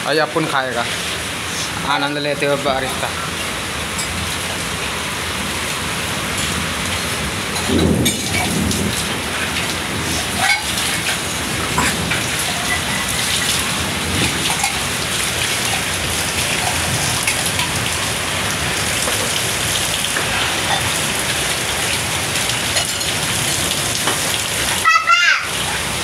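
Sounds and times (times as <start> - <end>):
steady rain falling: 0.0 - 26.0
water streaming off roof edge: 0.0 - 26.0
sharp water drips: 0.9 - 26.0.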